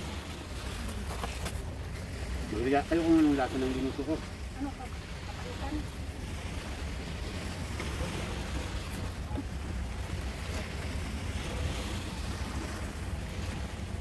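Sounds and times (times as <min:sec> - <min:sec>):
surf washing on shore: 0:00.0 - 0:14.0.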